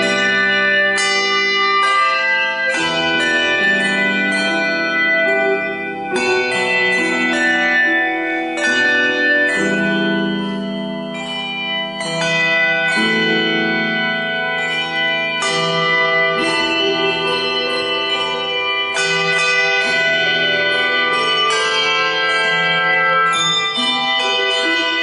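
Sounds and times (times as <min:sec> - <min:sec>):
handbells ringing: 0:00.0 - 0:25.0.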